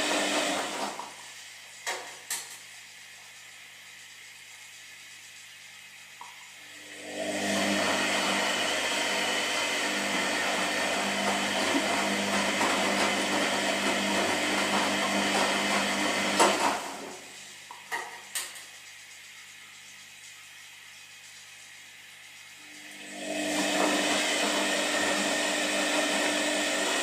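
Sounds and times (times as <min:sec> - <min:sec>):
washing machine drum whirring: 0:00.0 - 0:27.0.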